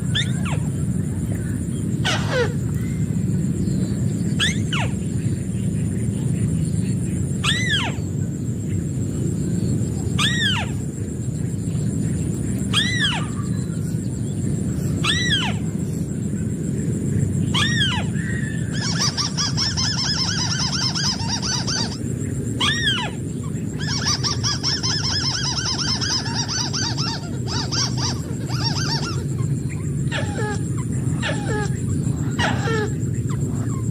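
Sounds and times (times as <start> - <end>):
crake calling: 0.0 - 33.9.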